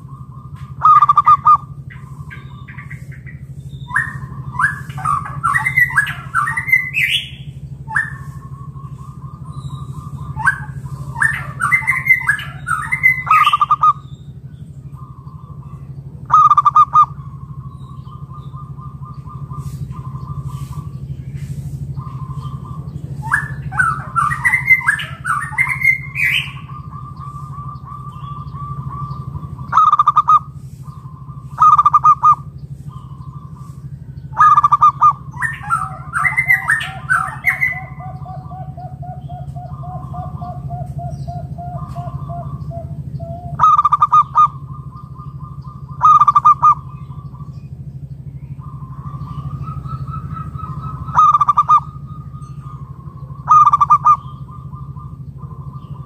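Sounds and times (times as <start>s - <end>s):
doves cooing: 0.0s - 56.0s
higher warbling chirp: 0.0s - 56.0s
lower rolling trill: 0.0s - 56.0s
steady low hum: 0.0s - 56.0s.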